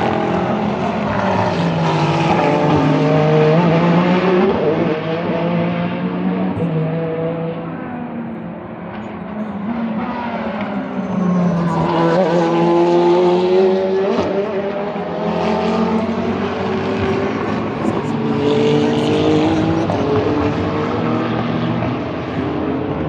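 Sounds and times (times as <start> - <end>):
race cars passing at speed: 0.0 - 23.0.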